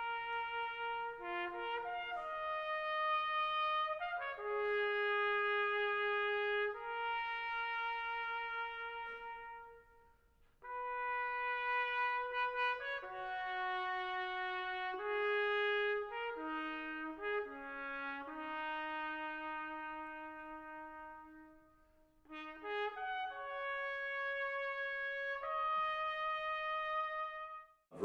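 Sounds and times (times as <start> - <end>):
solo brass melody: 0.0 - 28.0.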